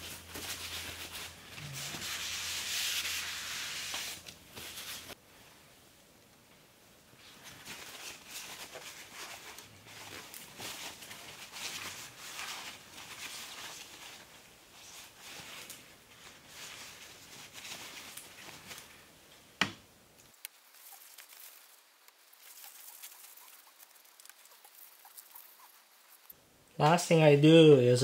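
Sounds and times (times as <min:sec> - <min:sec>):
paper towel rustling and rubbing: 0:00.0 - 0:05.2, 0:07.2 - 0:19.1, 0:20.6 - 0:26.4.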